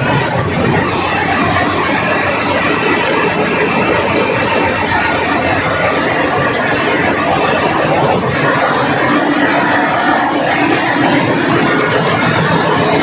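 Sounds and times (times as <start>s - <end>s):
engine room machinery roar: 0.0s - 13.0s.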